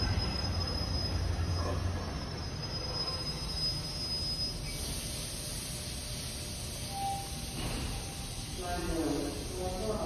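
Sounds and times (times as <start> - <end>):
subway train slowing to a stop: 0.0 - 10.0.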